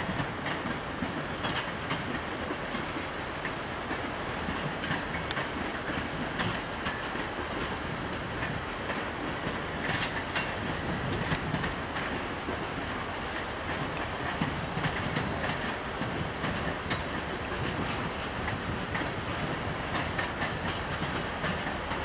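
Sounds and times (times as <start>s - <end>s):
train wheels rumbling on rails: 0.0s - 22.0s
clicks over rail joints: 0.1s - 22.0s.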